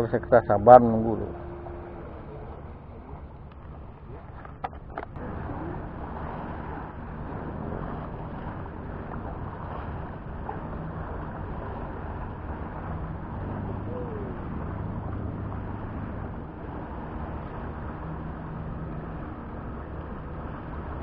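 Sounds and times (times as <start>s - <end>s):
motorboat engine droning: 0.0s - 21.0s
surf: 0.0s - 21.0s
wind: 0.0s - 21.0s.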